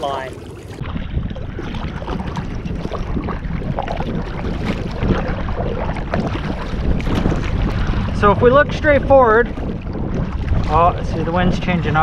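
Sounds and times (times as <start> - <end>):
waves lapping against a hull: 0.0 - 12.0
wind buffeting microphone: 0.0 - 12.0.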